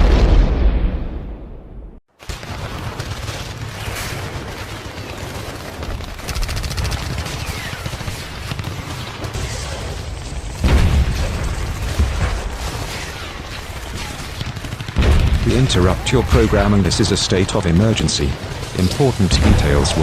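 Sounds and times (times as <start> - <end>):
rapid automatic gunfire: 2.2 - 20.0.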